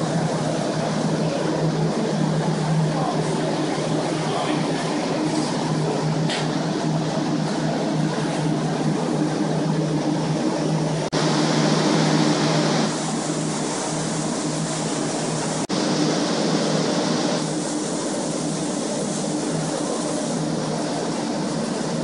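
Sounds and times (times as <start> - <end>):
drying fans whirring: 0.0 - 22.0.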